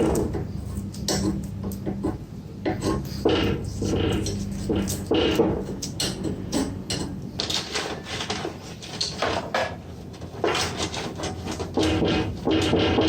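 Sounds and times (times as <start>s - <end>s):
hard parts clicking and scraping: 0.0s - 13.0s.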